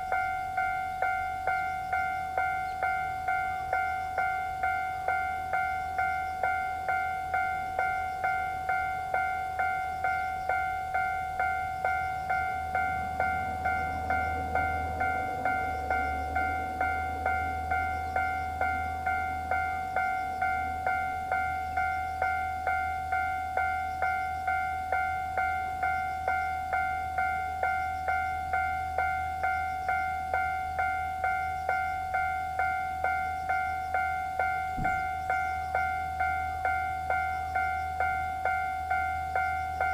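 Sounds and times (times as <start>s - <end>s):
level crossing alarm chime: 0.0s - 39.9s
passing train rumble: 0.0s - 39.9s.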